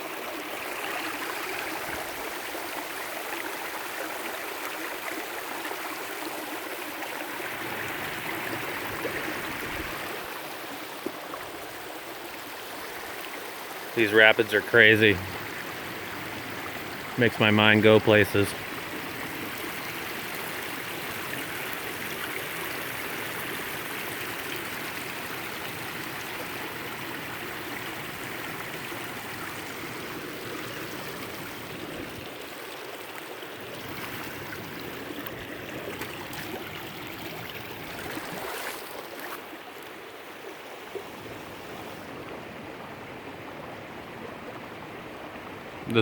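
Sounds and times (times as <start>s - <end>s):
water rushing over rocks: 0.0s - 44.0s.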